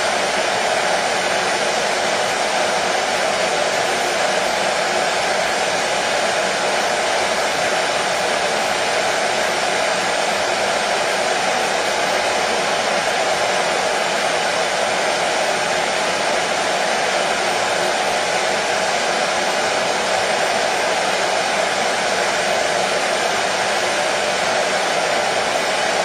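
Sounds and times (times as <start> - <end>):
hair dryer running: 0.0 - 26.0.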